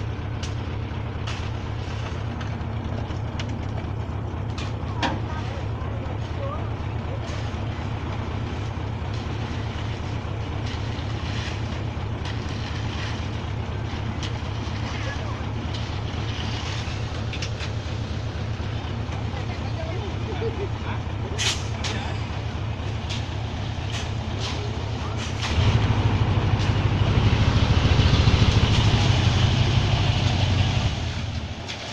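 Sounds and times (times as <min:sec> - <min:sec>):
diesel truck engine throbbing: 0:00.0 - 0:31.9.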